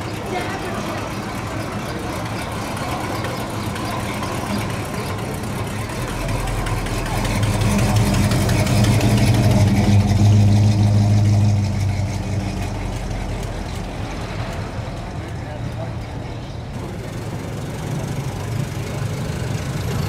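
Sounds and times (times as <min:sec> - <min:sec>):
car engines idling past: 0:00.0 - 0:20.0.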